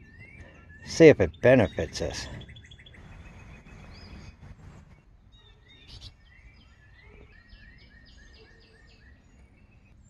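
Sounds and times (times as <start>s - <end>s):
songbird chirping: 0.0s - 10.0s.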